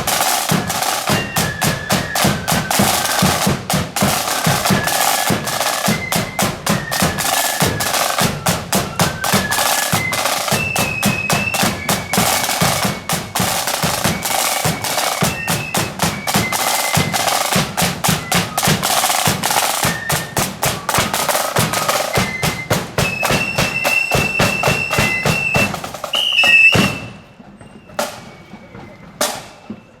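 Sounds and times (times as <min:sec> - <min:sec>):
snare and bass drum strokes: 0:00.0 - 0:27.4, 0:28.0 - 0:29.8
marching band playing: 0:00.0 - 0:29.9.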